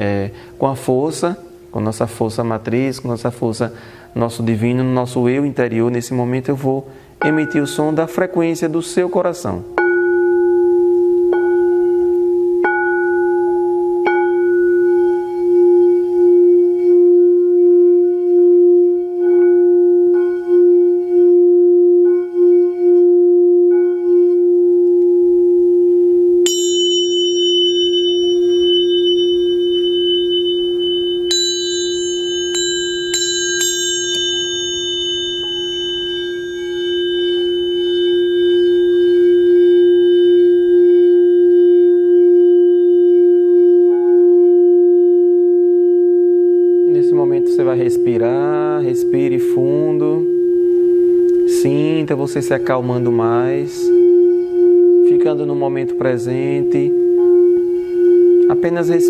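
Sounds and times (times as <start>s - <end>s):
higher bright ringing tones: 3.8s - 59.0s
singing bowl ringing: 7.2s - 59.0s.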